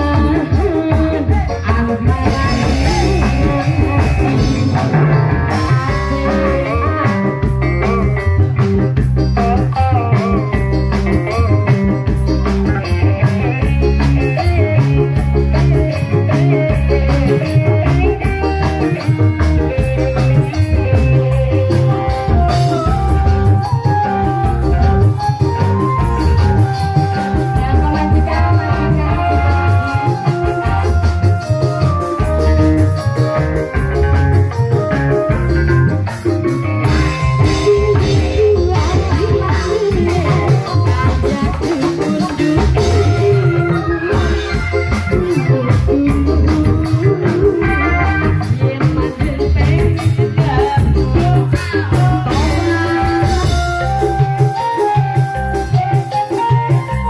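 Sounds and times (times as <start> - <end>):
woman singing into a microphone: 0.0 - 24.0, 26.8 - 33.4, 36.8 - 54.7
drums keeping a steady beat: 0.0 - 57.0
electronic organ: 0.0 - 57.0.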